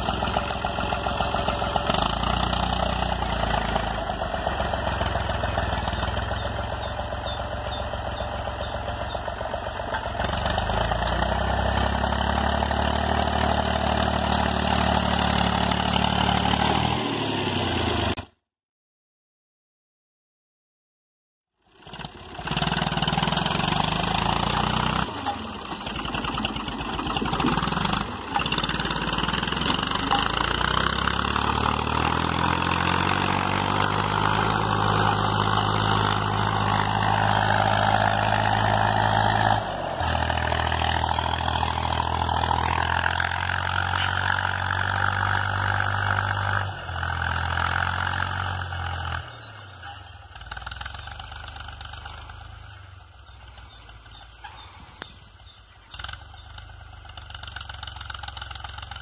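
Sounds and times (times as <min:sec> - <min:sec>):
tractor diesel engine under load: 0:00.0 - 0:18.3, 0:21.6 - 0:59.0.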